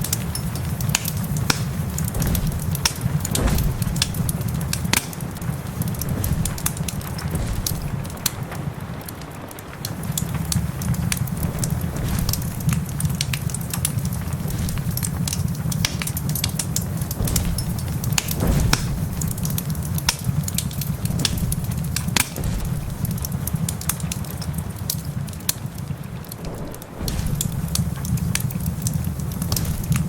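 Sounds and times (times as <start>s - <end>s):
fire pops and snaps: 0.0s - 30.0s
wood fire crackling: 0.0s - 30.0s
low rumble: 1.7s - 30.0s.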